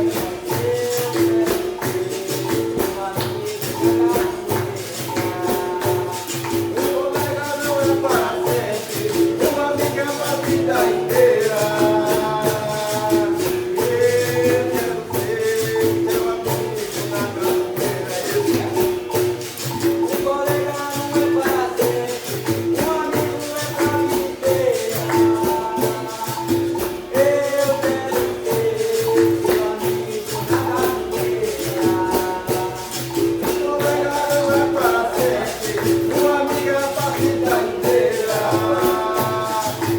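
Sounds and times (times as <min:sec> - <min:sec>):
berimbau rhythmic pattern: 0:00.0 - 0:39.9
pandeiro: 0:00.0 - 0:39.9
person singing: 0:00.0 - 0:39.9.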